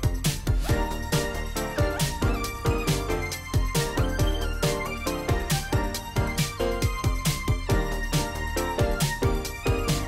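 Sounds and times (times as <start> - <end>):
music with steady kick drum: 0.0 - 10.0.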